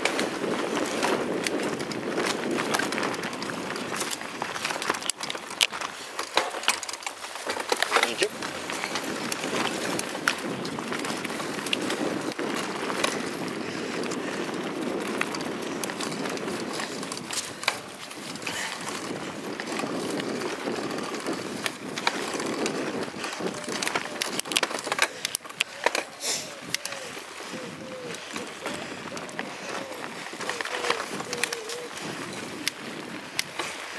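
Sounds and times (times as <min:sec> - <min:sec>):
bike rattles and knocks: 0:00.0 - 0:33.9
bike tyres rumbling on dirt: 0:00.0 - 0:33.9.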